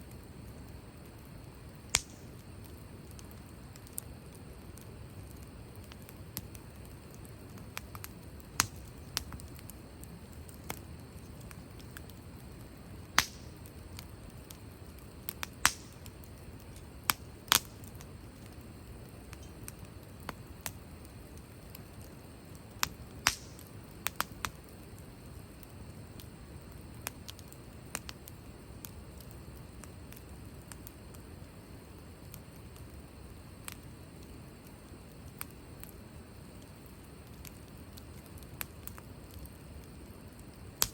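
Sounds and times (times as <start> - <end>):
wood campfire crackling: 0.0 - 40.9.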